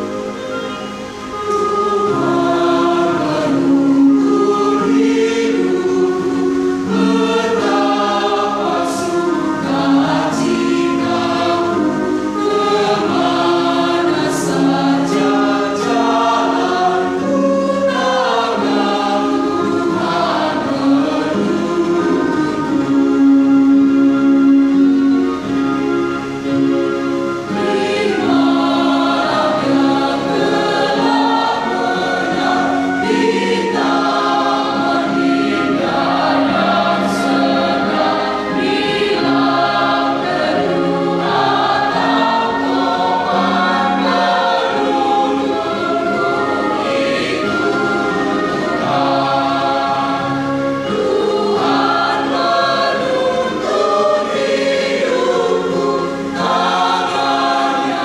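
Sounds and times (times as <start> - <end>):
mixed choir singing a hymn: 0.0 - 58.0.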